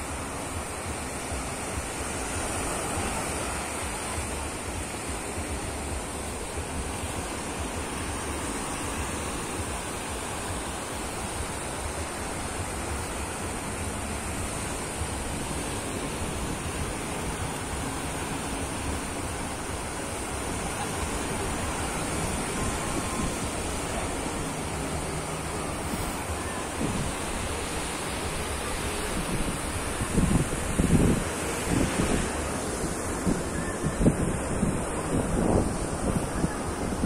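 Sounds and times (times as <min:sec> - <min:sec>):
ocean waves breaking on sand: 0:00.0 - 0:37.0.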